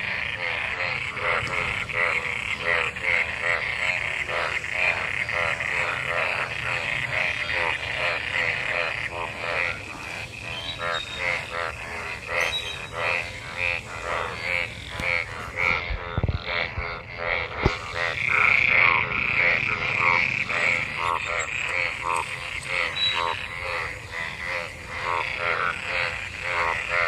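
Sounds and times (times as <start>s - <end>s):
chorus of frogs croaking: 0.0s - 27.0s.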